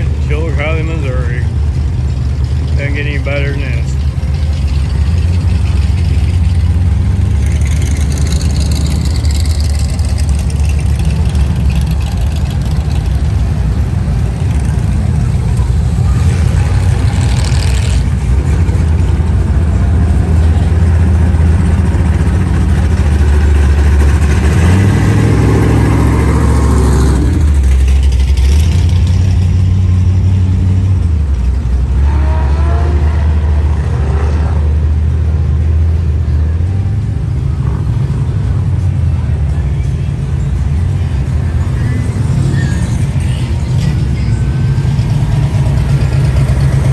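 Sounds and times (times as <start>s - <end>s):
car engines rumbling: 0.0s - 46.9s.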